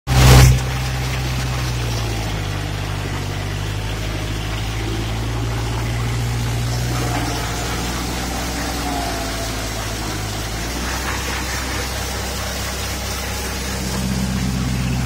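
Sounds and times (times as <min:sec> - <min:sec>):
loud rush: 0:00.1 - 0:15.0
tractor diesel engine running: 0:00.1 - 0:15.0
water and mud churning: 0:00.1 - 0:15.0.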